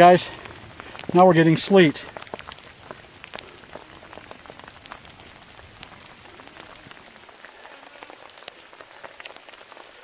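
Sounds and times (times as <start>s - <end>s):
sleet pellets ticking on ground: 0.0s - 10.0s.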